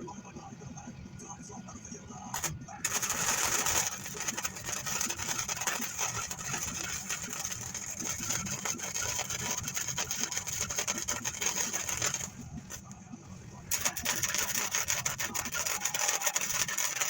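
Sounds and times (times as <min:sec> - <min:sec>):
welding arc crackling and hissing: 0:02.4 - 0:17.0.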